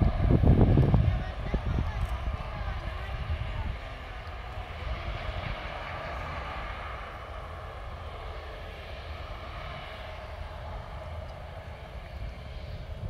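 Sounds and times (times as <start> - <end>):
jet engines humming: 0.0 - 13.0.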